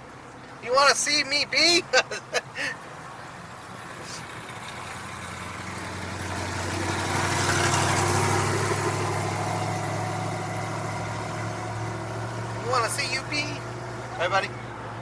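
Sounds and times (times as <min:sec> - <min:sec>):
car engine running at low revs: 0:02.8 - 0:15.0.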